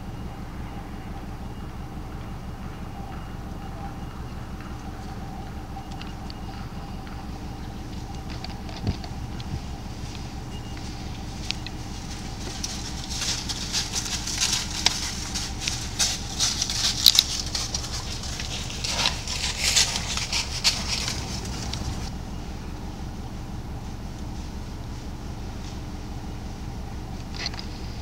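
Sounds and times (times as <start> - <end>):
hooves crunching dry leaves: 2.2 - 28.0.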